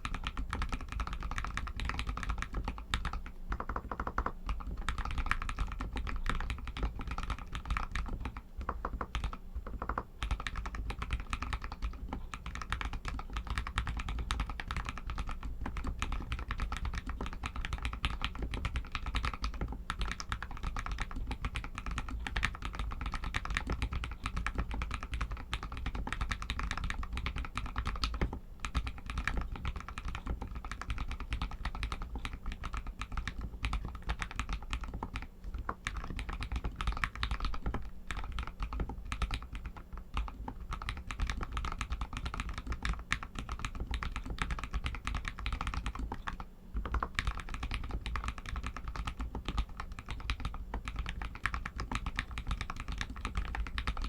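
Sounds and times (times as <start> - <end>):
fast mechanical keyboard typing: 0.0 - 54.0.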